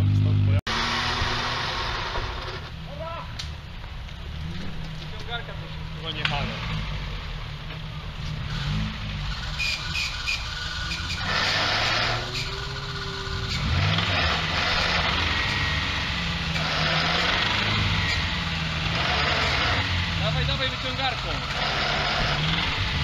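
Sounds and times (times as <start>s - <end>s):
off-road vehicle engine revving: 0.0s - 2.8s, 4.2s - 23.0s.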